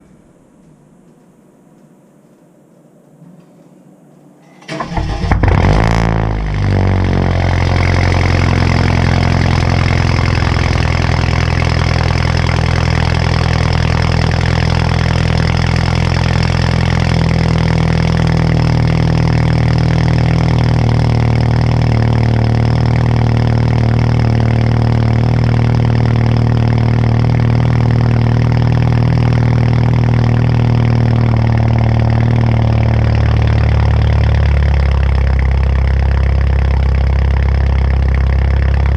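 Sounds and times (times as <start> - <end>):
car engine starting and idling: 4.5 - 38.9.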